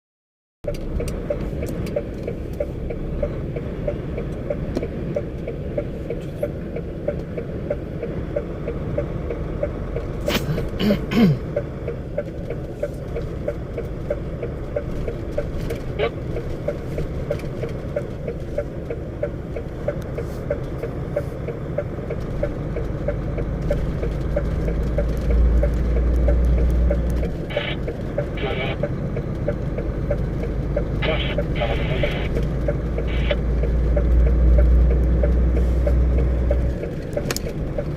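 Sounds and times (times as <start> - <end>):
vehicle engine and road rumble: 0.6 - 37.9.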